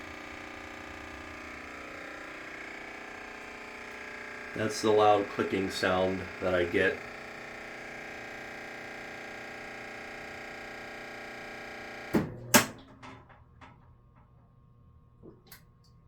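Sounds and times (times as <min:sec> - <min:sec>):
washer buzzing: 0:00.0 - 0:13.6.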